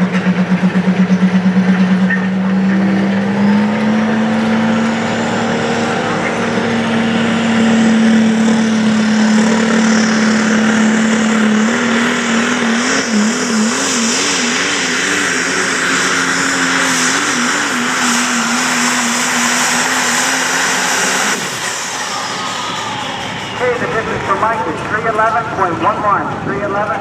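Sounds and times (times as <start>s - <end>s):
truck engine revving hard: 0.0s - 26.5s.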